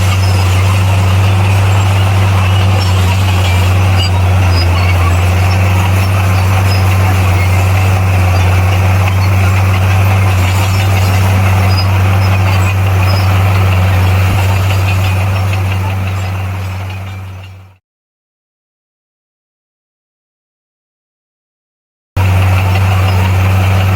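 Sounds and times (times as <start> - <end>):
diesel engine droning: 0.0 - 17.8, 22.2 - 23.9.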